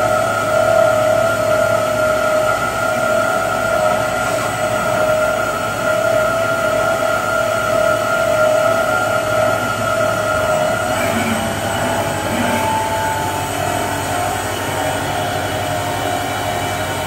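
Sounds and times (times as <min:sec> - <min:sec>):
tool grinder whining: 0:00.0 - 0:17.0.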